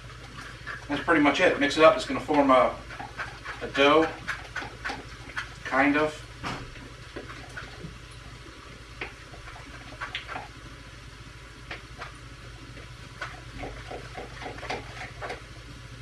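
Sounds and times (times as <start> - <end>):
dough squelching in a bowl: 0.0 - 10.9, 11.5 - 15.6
steady low hum: 0.0 - 16.0.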